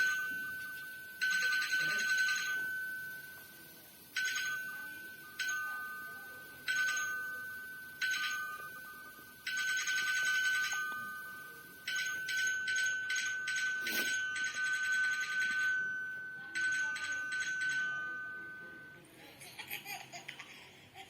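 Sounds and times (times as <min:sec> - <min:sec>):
high ringing chime: 0:00.0 - 0:19.1.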